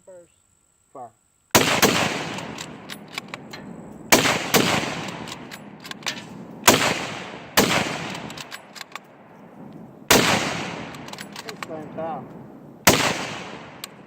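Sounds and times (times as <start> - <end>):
rifle shots with echo: 1.5 - 14.0.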